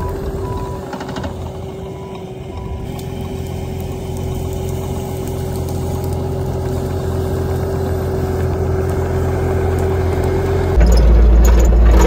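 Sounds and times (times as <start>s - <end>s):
deep engine rumble: 0.0s - 12.0s
diesel engine running with whine: 0.0s - 12.0s.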